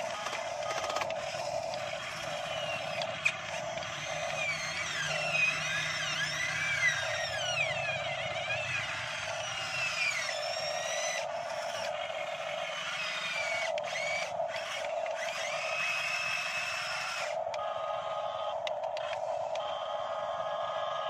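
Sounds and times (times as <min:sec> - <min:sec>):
small electric motors whining: 0:00.0 - 0:21.0
steady hum: 0:00.0 - 0:21.0.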